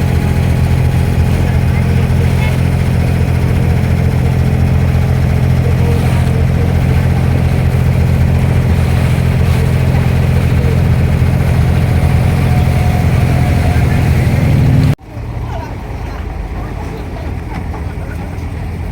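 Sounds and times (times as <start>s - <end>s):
boat diesel engine droning: 0.0s - 18.9s.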